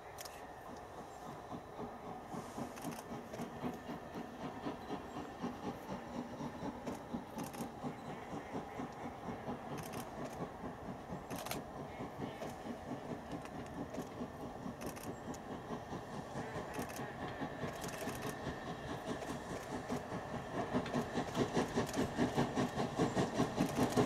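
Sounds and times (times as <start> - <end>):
steam locomotive exhaust beats: 0.0 - 24.0.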